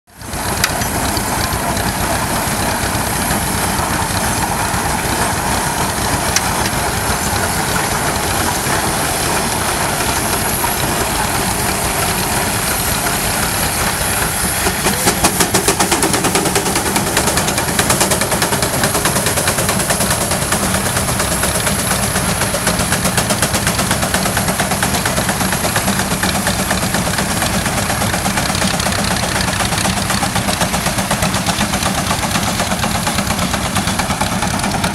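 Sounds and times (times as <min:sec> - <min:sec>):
steam engine chuffing: 0:00.1 - 0:34.9
steam hissing: 0:00.1 - 0:34.9.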